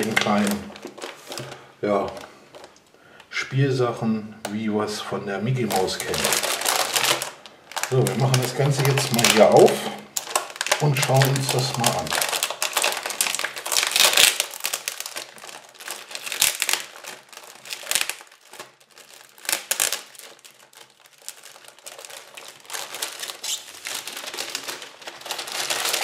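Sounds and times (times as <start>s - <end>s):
foil plastic bag crinkling: 0.0s - 3.2s, 5.4s - 26.0s.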